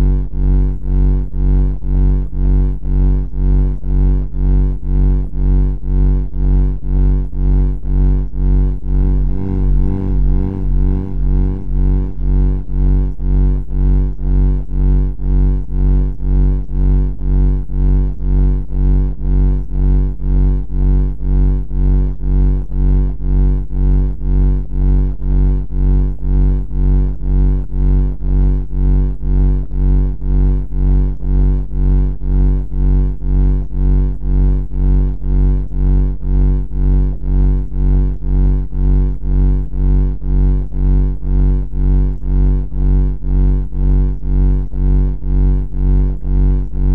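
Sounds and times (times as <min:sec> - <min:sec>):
low pulsing buzzing drone: 0:00.0 - 0:46.9.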